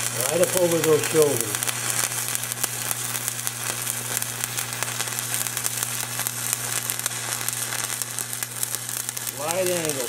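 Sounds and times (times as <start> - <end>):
welding arc crackling sizzle: 0.0 - 10.0.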